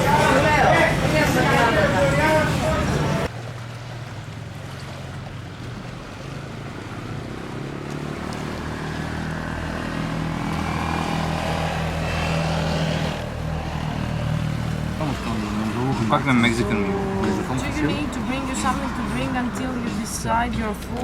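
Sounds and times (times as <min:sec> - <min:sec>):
boat motor running: 0:00.0 - 0:21.0.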